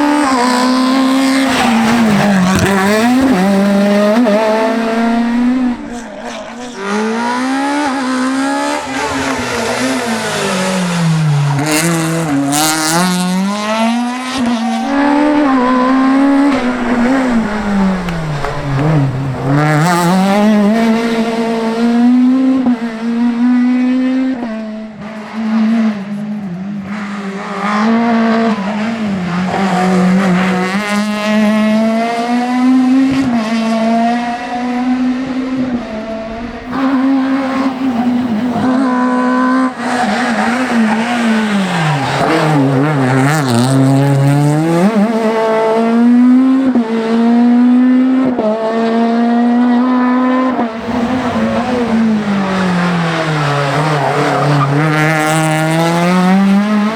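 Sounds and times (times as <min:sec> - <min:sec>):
rally car engine at high revs: 0:00.0 - 0:56.9.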